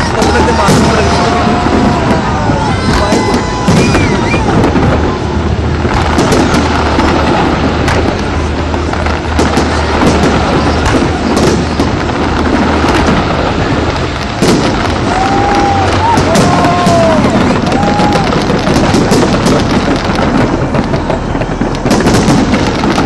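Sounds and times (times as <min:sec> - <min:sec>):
fireworks exploding: 0:00.0 - 0:23.0.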